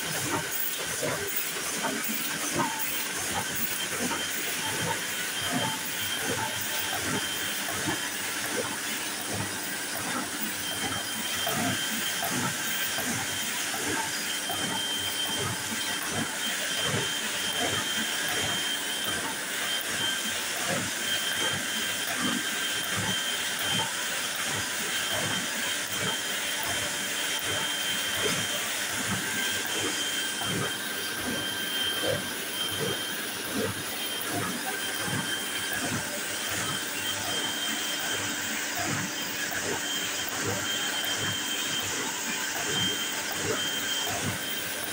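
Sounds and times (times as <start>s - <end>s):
printing press hissing: 0.0s - 44.9s.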